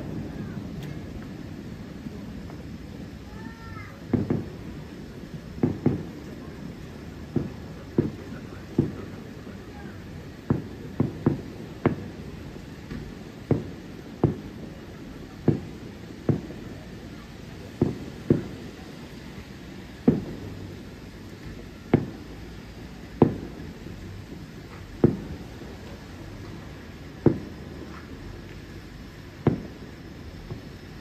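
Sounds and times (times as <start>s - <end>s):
distant fireworks booming: 0.0s - 31.0s.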